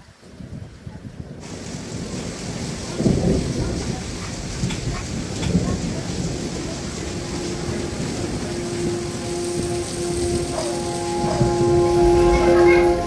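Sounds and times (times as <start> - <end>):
heavy rain pouring: 0.0 - 13.0
thunder rumbles: 1.0 - 13.0.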